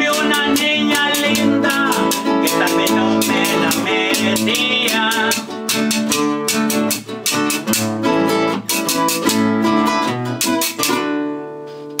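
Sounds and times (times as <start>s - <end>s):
metal scraper rhythm: 0.0s - 11.1s
acoustic guitars strumming: 0.0s - 12.0s.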